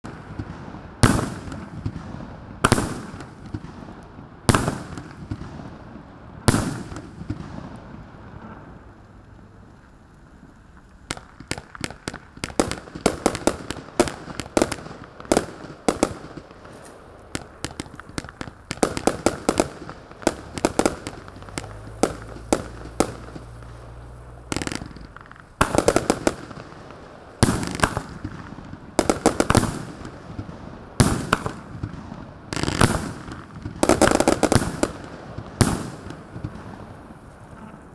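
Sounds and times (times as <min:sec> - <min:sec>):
fireworks bangs: 0:00.0 - 0:09.0, 0:10.4 - 0:37.9
crackling firework shots: 0:00.0 - 0:37.9.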